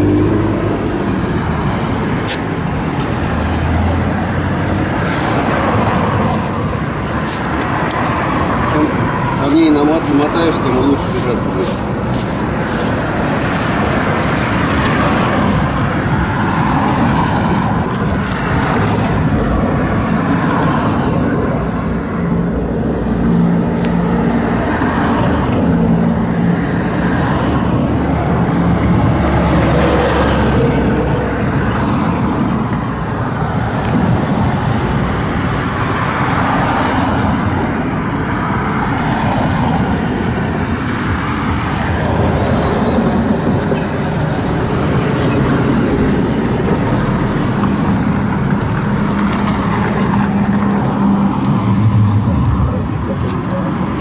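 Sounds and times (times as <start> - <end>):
engine hum: 0.0 - 54.0
road traffic noise: 0.0 - 54.0.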